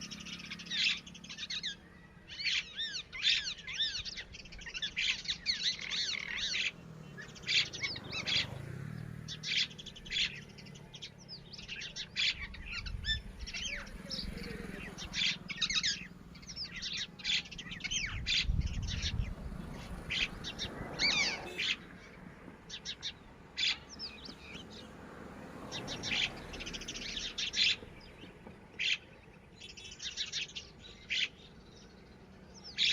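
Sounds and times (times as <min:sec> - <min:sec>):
lapwing calling: 0:00.0 - 0:24.9, 0:25.6 - 0:31.6.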